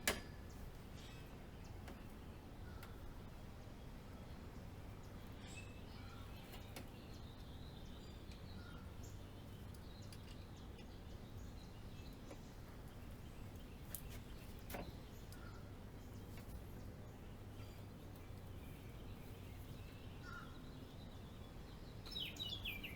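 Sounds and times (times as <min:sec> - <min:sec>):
faint background hum: 0:00.0 - 0:22.9.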